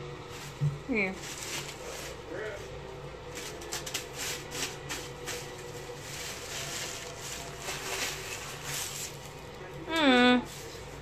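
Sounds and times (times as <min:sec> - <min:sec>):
toilet paper crinkling and rustling: 0:00.0 - 0:11.0.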